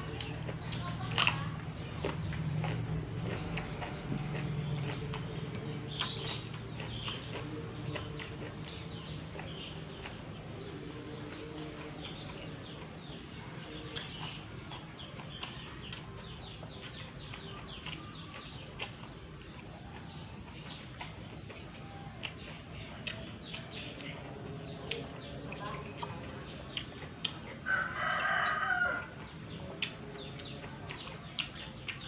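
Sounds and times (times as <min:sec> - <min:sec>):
birds chirping: 0:00.0 - 0:32.0
chewing with crunches: 0:00.0 - 0:32.0.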